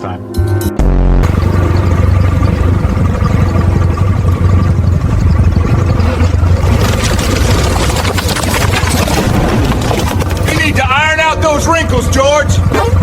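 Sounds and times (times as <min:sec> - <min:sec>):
low engine-like rumble: 0:00.0 - 0:13.0
crackling noise: 0:00.7 - 0:11.2.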